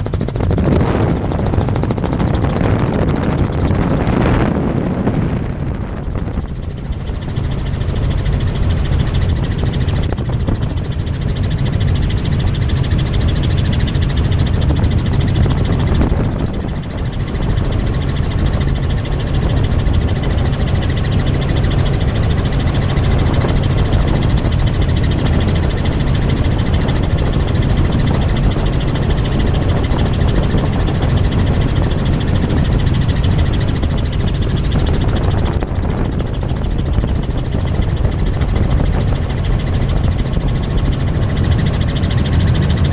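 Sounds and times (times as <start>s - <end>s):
helicopter rotor and engine: 0.0s - 42.9s.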